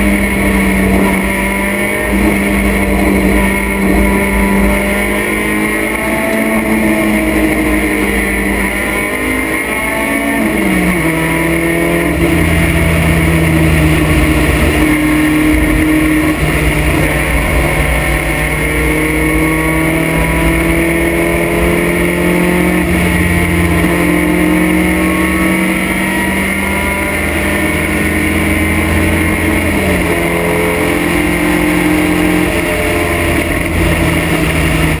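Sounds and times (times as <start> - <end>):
race car engine running: 0.0 - 35.0.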